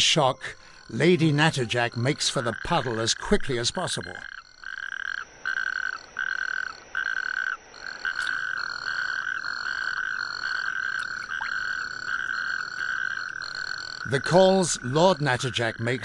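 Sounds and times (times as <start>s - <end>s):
toads calling: 0.0s - 16.0s.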